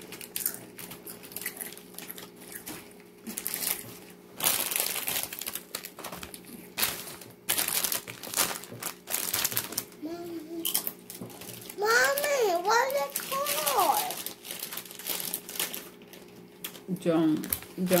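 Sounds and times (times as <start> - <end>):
crunching wafer cookie: 0.0 - 16.8.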